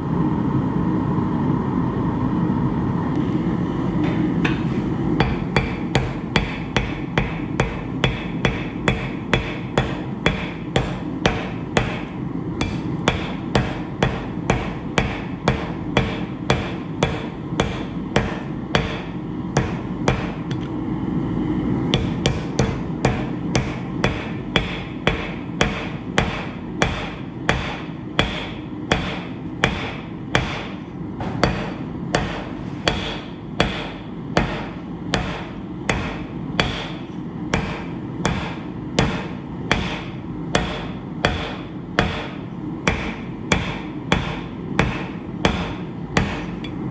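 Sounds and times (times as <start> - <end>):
hammer striking steel on anvil: 4.0 - 20.7, 21.9 - 46.9.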